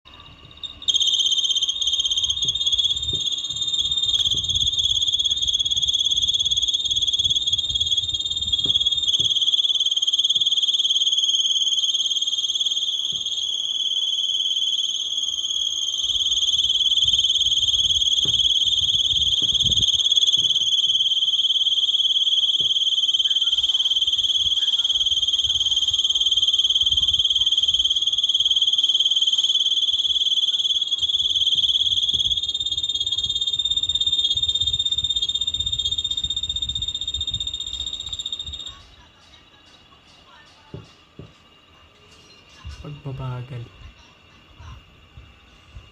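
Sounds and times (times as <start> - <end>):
air conditioner chirping buzz: 0.0 - 45.9.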